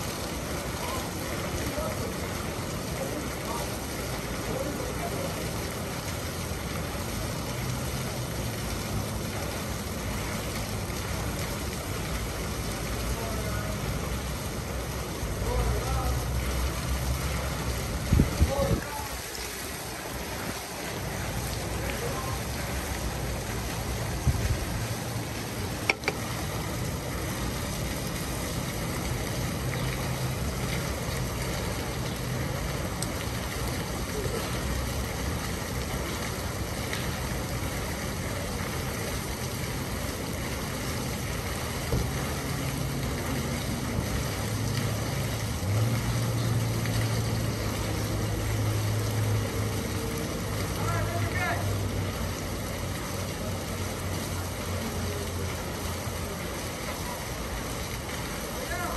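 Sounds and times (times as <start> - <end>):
fountain water splashing: 0.0 - 58.9.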